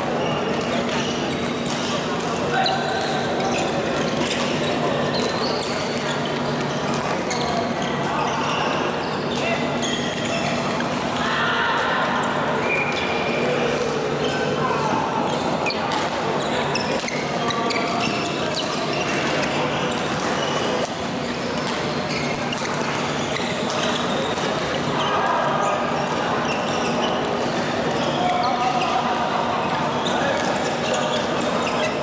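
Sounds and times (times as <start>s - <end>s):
shoes squeaking on court: 0.0s - 11.1s, 12.2s - 32.0s.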